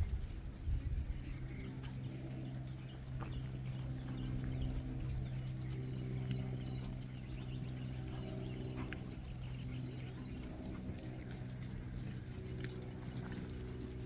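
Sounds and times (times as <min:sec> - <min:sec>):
birds chirping: 0:00.0 - 0:14.0
machinery engine hum: 0:00.0 - 0:14.0.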